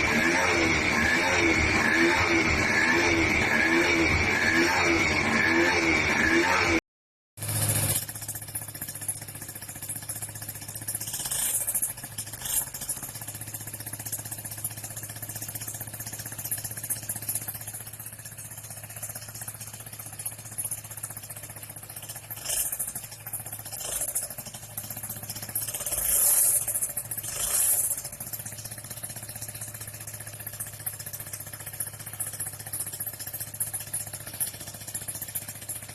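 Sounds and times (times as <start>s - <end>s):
motorbike engine idling and revving: 0.0s - 6.8s, 7.4s - 35.9s.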